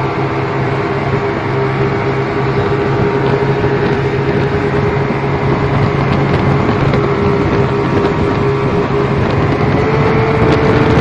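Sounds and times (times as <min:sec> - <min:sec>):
speedboat engine droning: 0:00.0 - 0:11.0
water churning in wake: 0:00.0 - 0:11.0
wind noise: 0:00.0 - 0:11.0.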